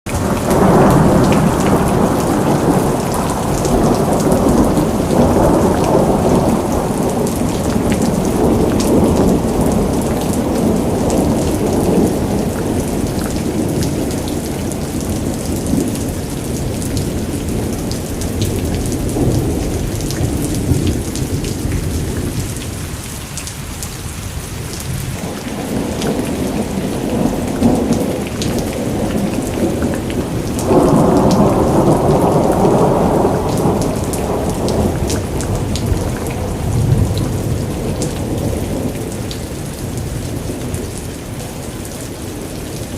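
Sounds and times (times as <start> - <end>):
heavy rain pouring: 0.0 - 42.9
low rumble of thunder: 0.2 - 22.9, 24.7 - 42.9.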